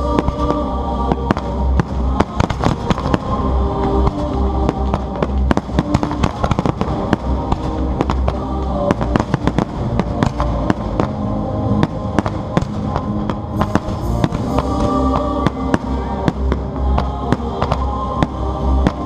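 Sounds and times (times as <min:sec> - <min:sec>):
fireworks bangs: 0:00.0 - 0:19.0
loud music with pulsing bass: 0:00.0 - 0:19.0.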